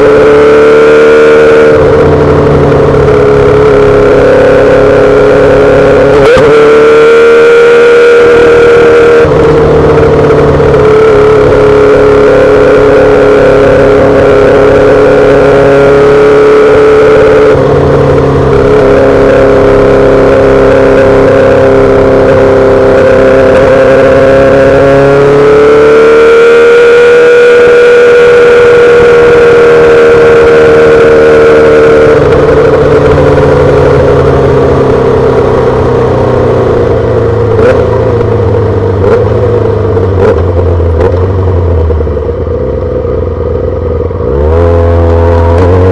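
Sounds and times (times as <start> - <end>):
motorcycle engine at high revs: 0.0 - 45.9.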